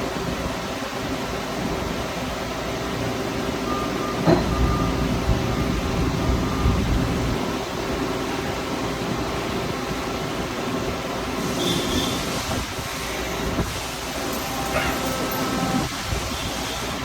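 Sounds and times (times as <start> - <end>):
industrial machinery humming: 1.5 - 17.0.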